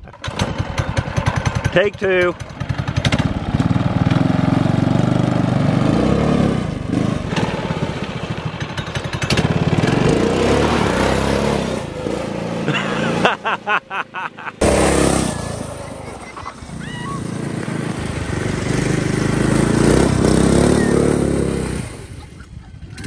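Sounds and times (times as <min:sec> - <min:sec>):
small gas engine revving: 0:00.0 - 0:23.0.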